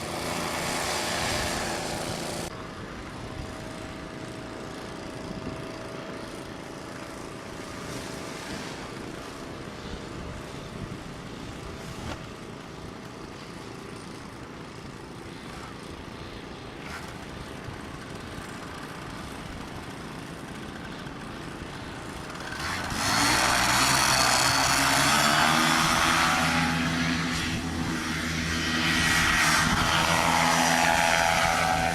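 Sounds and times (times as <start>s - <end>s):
paramotor engine and propeller: 0.0s - 31.9s.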